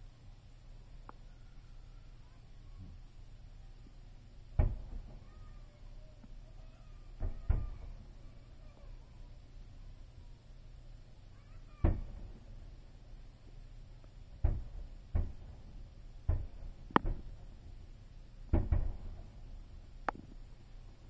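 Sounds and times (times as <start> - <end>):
distant fireworks booming: 3.9 - 21.0.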